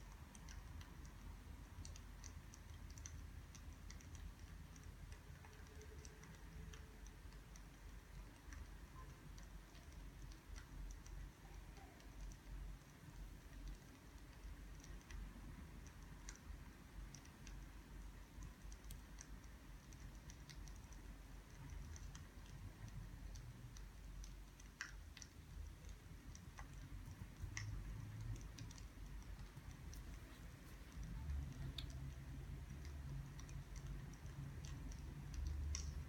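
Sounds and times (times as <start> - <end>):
low steady rumble: 0.0 - 36.0.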